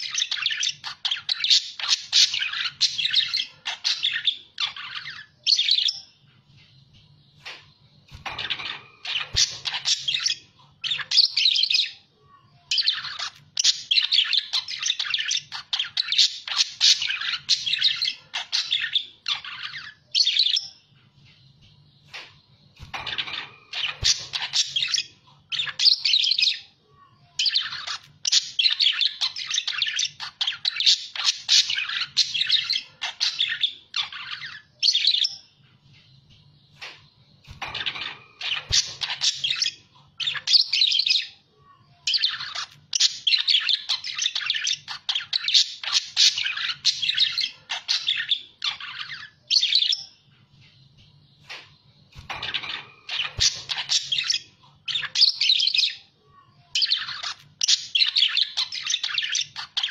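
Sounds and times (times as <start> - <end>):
budgerigars chattering and warbling: 0.0 - 6.0, 7.4 - 12.0, 12.8 - 20.7, 22.1 - 26.6, 27.4 - 35.4, 36.8 - 41.4, 42.1 - 50.1, 51.4 - 56.1, 56.8 - 59.9.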